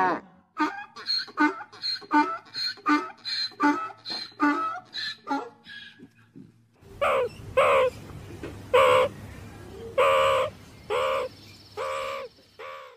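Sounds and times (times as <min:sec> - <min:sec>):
animal calling: 0:00.6 - 0:08.0, 0:08.7 - 0:09.2, 0:09.9 - 0:12.9.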